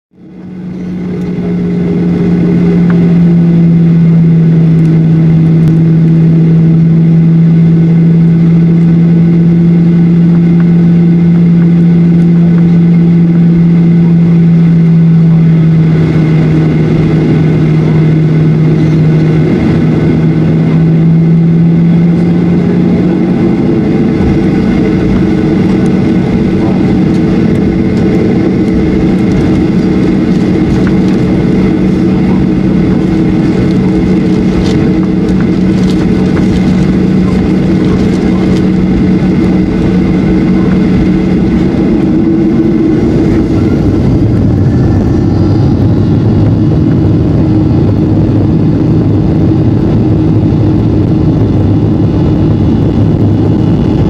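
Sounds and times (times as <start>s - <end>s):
jet engine hum in cabin: 0.1s - 54.0s.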